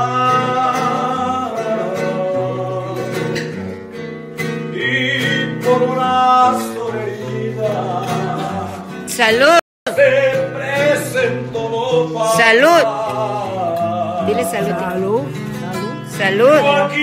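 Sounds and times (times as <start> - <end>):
man singing long held notes: 0.0 - 3.4, 4.7 - 17.0
strummed acoustic guitar: 0.0 - 17.0.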